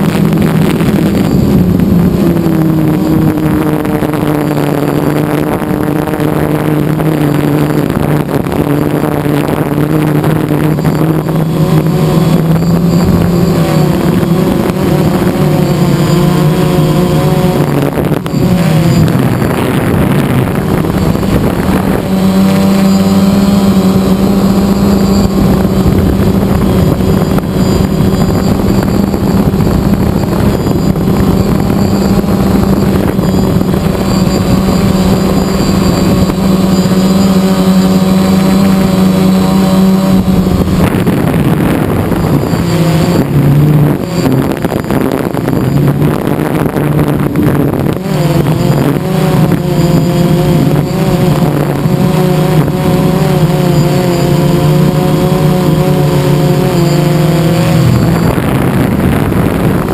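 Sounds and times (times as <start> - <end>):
electric motors and propellers humming: 0.0 - 59.9
wind on microphone: 0.0 - 59.9.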